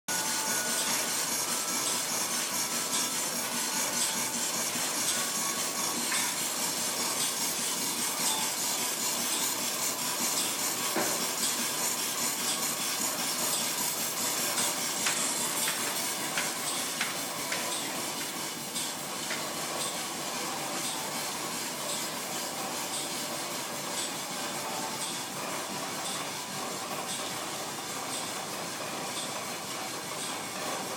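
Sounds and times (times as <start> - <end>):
machinery whirring and hissing: 0.1 - 30.9.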